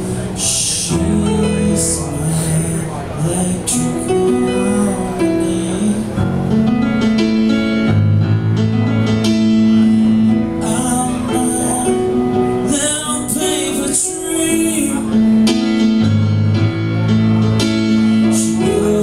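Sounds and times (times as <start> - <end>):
music with held notes: 0.0 - 19.0.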